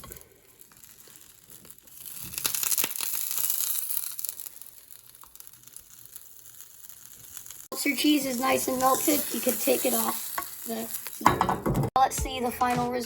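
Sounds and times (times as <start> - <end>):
sandwich sizzling in frying pan: 0.0 - 11.6.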